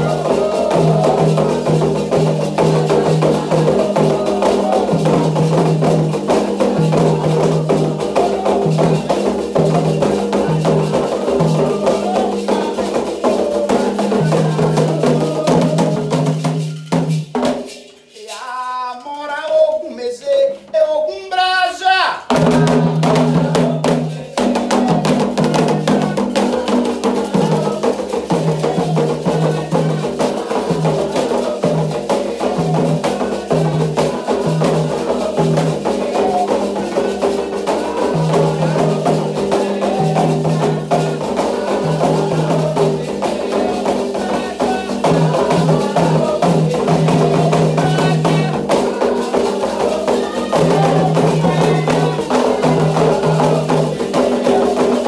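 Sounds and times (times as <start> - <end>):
hand drums beating fast rhythm: 0.0 - 19.8, 22.2 - 55.0.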